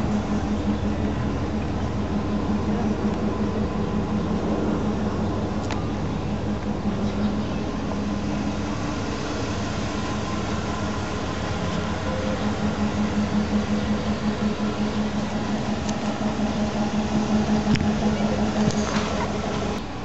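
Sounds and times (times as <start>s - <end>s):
fire engine idling: 0.0s - 20.0s.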